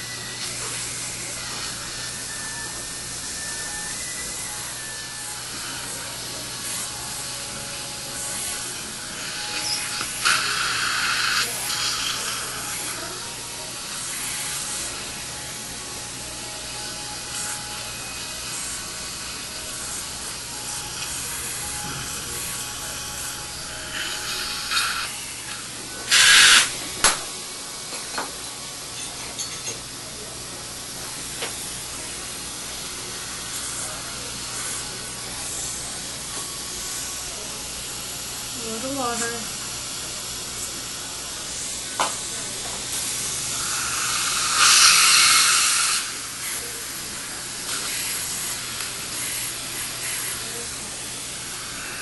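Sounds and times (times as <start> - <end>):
dental suction hissing: 0.0 - 27.2, 31.0 - 37.5, 38.1 - 52.0.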